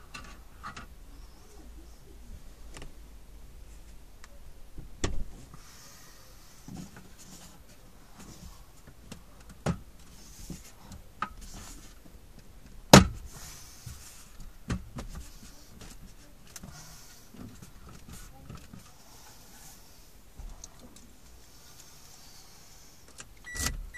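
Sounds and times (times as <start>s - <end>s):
quiet rustling: 0.0s - 23.9s.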